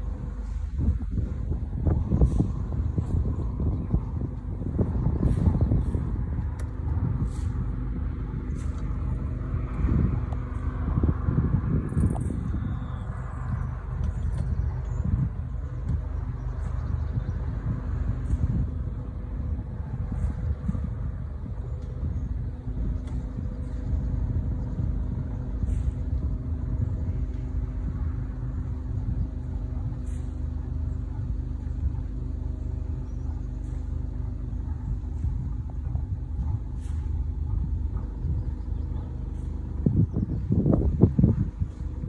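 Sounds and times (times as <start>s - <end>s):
boat engine rumbling: 0.0s - 42.0s.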